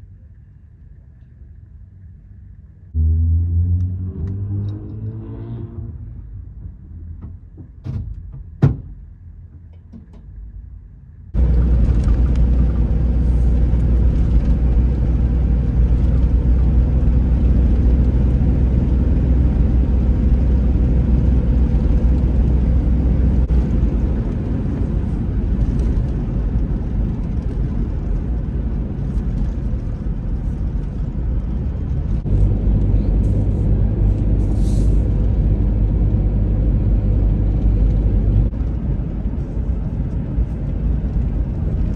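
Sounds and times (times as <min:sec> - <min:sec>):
engine and road noise in cabin: 0:00.0 - 0:41.9.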